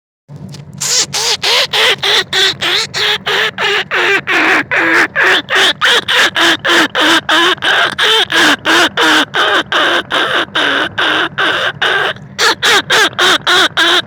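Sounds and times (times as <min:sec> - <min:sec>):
rat squealing calls: 0:00.6 - 0:14.0.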